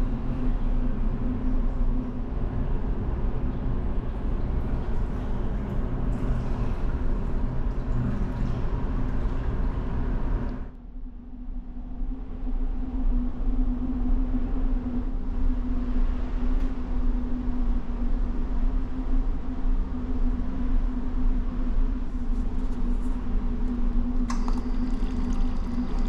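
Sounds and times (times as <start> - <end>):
low drone of ship engines: 0.0 - 26.0.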